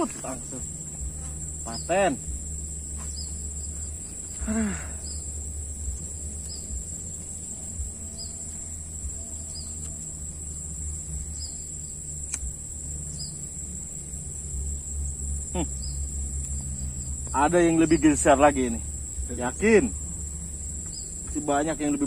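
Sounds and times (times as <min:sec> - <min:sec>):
high-pitched insect buzz: 0:00.0 - 0:22.0
low rumble: 0:00.0 - 0:22.0.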